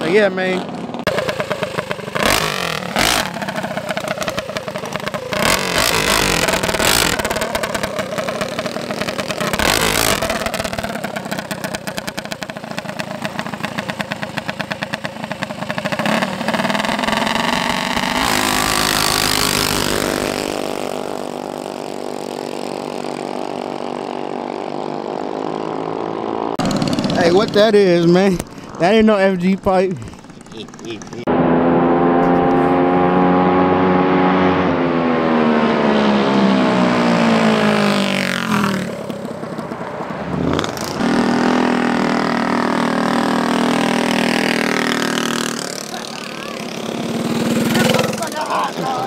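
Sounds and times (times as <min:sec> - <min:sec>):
mini bike engine revving: 0:00.0 - 0:49.0.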